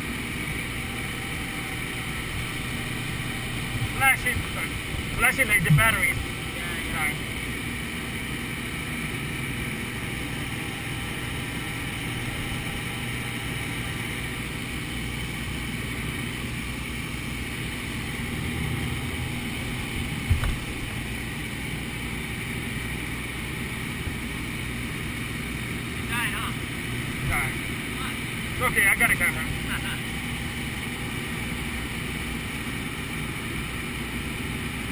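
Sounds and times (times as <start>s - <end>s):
aircraft engine and propeller: 0.0s - 34.9s.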